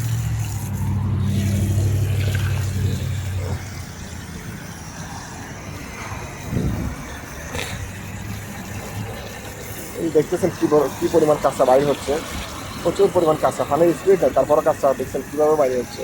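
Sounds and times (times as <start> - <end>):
water spray machine motor humming: 0.0 - 16.0.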